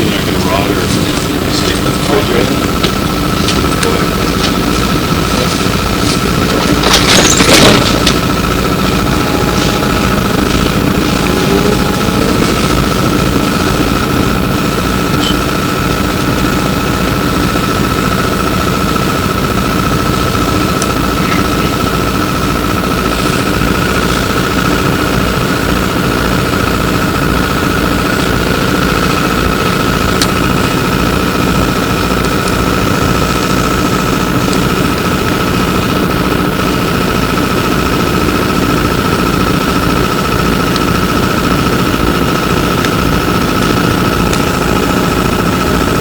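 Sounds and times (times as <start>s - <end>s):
constant rumble: 0.0s - 46.0s
electrical hum and whine: 0.0s - 46.0s.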